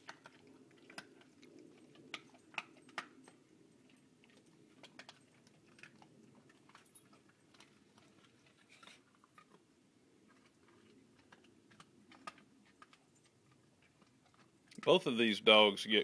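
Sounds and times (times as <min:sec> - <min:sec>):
dog crunching bone: 0:00.0 - 0:14.9.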